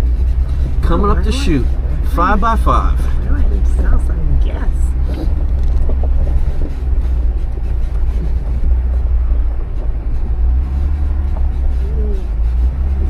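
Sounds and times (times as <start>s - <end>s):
engine rumbling low: 0.0s - 13.0s.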